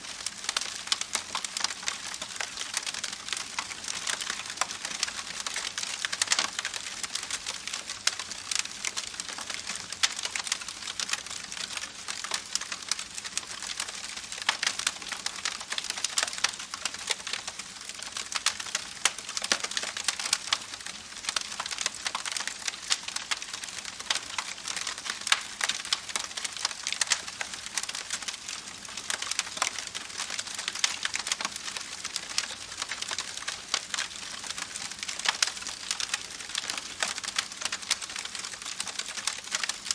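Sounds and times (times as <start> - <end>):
campfire crackling and popping: 0.2 - 39.9.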